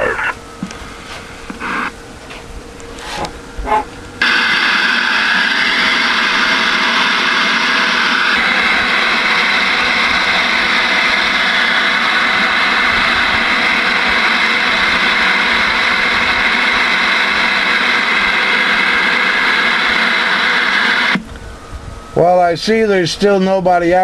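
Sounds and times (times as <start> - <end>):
radio static hiss: 0.0 - 2.0, 3.0 - 21.2.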